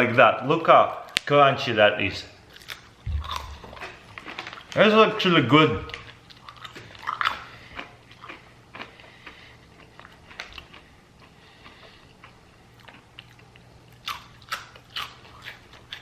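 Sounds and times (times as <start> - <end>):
person chewing crunchy fruit: 2.5 - 5.2, 5.8 - 16.0.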